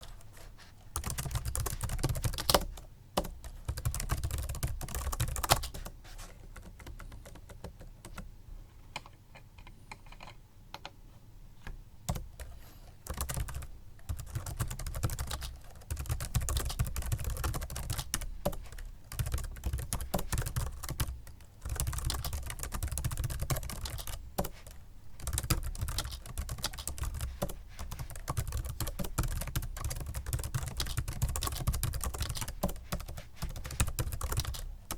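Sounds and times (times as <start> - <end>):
typing on membrane keyboard: 1.0 - 8.3, 13.1 - 34.9.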